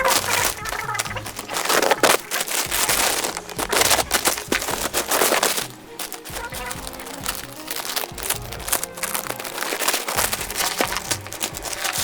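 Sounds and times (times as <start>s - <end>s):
package wrapping tearing: 0.0s - 12.0s.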